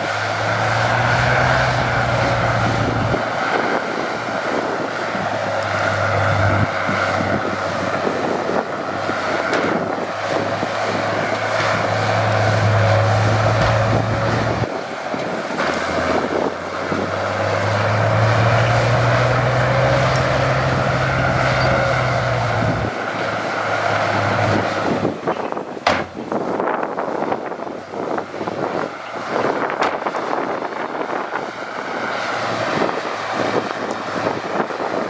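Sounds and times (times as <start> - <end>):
heavy machinery diesel engine drone: 0.0 - 35.0.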